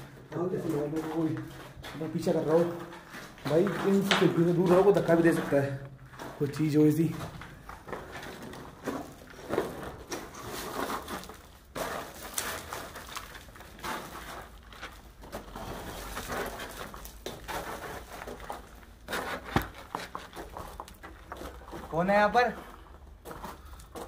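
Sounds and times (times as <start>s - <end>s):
footsteps crunching on rubble: 0.0s - 24.0s.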